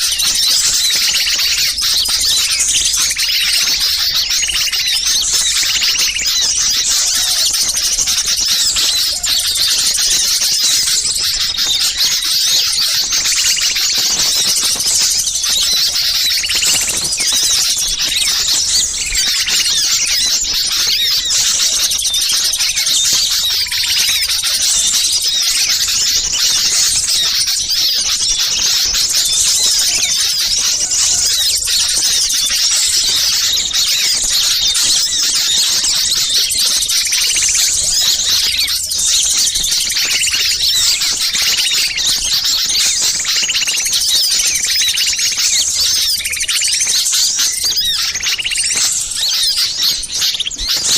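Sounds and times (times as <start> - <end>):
chorus of songbirds chirping: 0.0 - 50.9.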